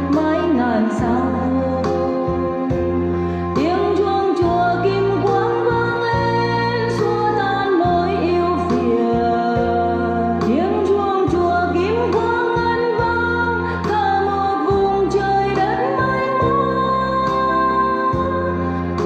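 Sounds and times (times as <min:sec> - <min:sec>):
devotional instrumental music: 0:00.0 - 0:19.0.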